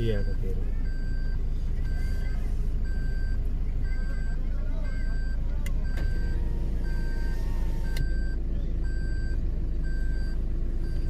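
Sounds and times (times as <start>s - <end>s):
electronic warning beeps: 0.0s - 11.0s
vehicle engine rumbling: 0.0s - 11.0s.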